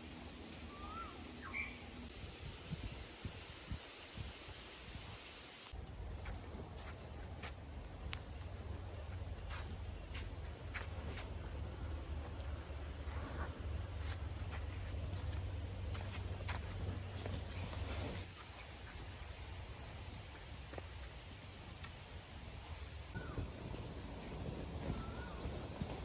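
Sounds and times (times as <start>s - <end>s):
insect chorus: 2.4s - 26.0s.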